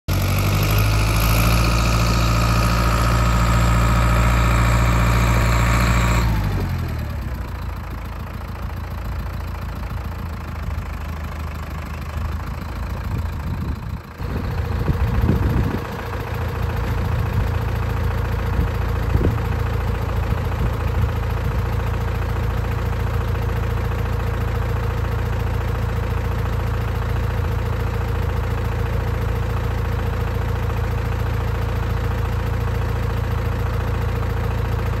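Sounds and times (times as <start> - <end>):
tractor diesel engine: 0.1 - 35.0.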